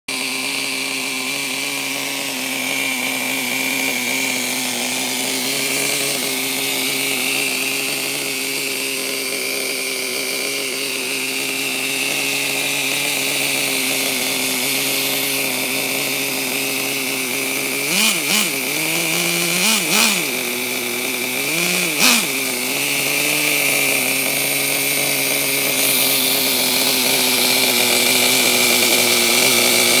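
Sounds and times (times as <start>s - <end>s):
small engine idling and revving: 0.0s - 30.0s.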